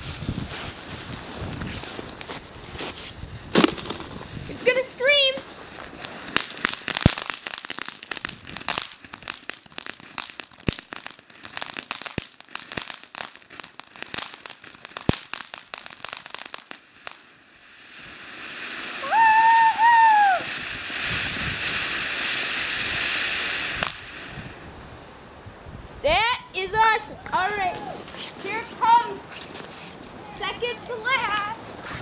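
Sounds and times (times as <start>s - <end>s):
firework spraying hiss: 0.0s - 25.5s, 27.4s - 32.0s
firework crackling: 0.0s - 25.8s, 26.7s - 32.0s.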